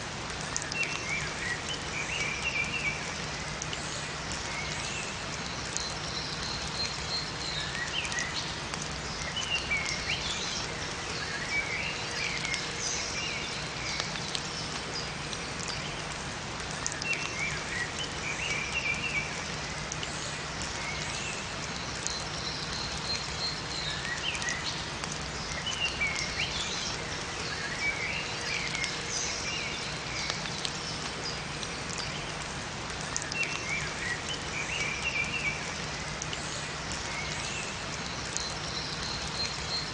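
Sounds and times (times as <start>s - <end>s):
steady rain: 0.0s - 39.9s
songbirds chirping: 0.3s - 39.9s.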